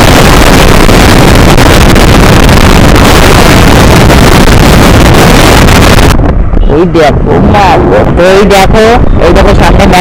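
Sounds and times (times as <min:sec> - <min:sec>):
vehicle running noise: 0:00.0 - 0:10.0
wind buffeting microphone: 0:00.0 - 0:10.0.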